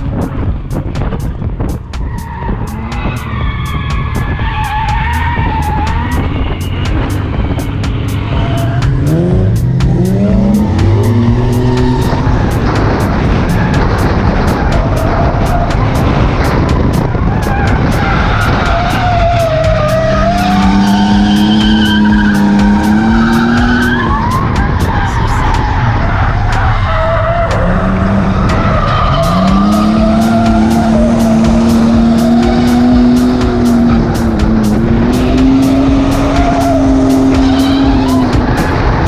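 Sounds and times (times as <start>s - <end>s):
car engine at high revs: 0.0s - 39.0s
tyres squealing: 0.0s - 39.0s.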